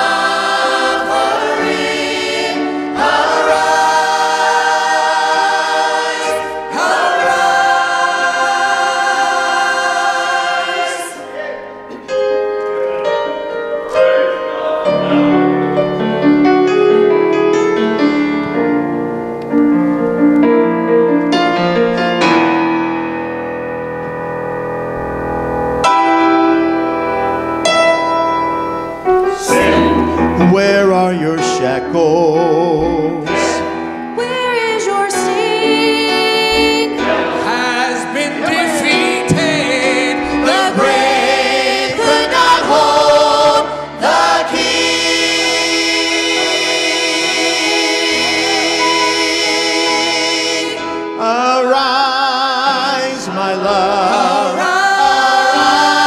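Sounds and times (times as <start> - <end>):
church choir singing: 0.0 - 23.2, 24.6 - 56.0
slow piano piece: 0.0 - 56.0.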